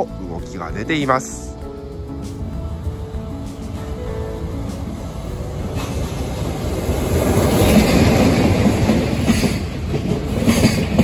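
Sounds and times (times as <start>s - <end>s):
train wheels rumbling on rails: 0.4s - 11.0s.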